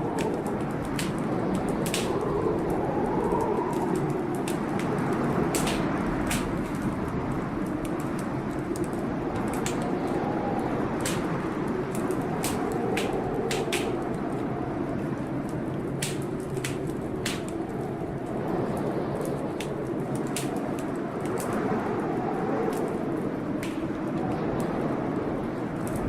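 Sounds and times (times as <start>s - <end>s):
rain: 0.0s - 26.0s
wood fire crackling and popping: 0.0s - 26.0s.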